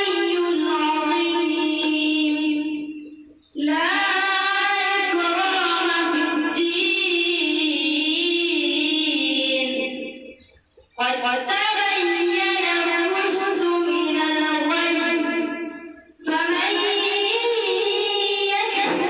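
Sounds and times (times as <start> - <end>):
boy chanting into microphone: 0.0 - 10.4, 11.0 - 19.0.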